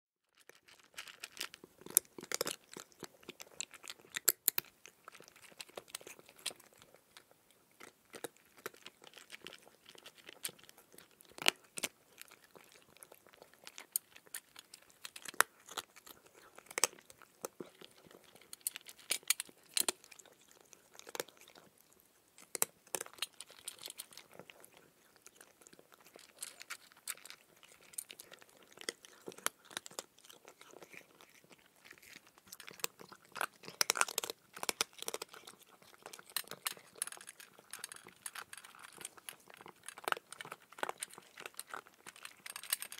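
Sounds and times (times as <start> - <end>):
cat crunching dry kibble: 0.3 - 42.9.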